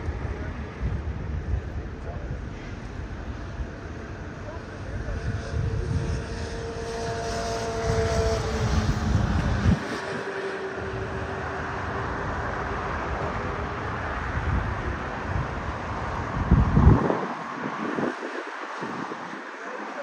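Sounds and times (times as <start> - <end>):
jet engines running: 0.0 - 20.0
wind rumble on microphone: 0.0 - 20.0.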